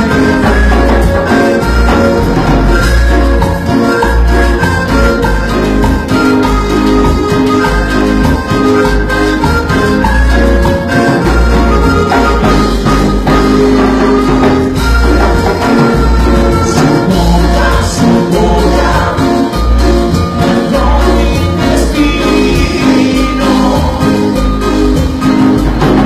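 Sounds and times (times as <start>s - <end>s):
live band playing cumbia: 0.0s - 26.0s.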